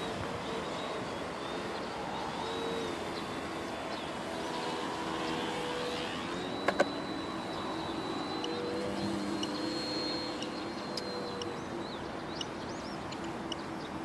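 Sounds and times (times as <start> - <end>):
model airplane motor droning: 0.0 - 14.0.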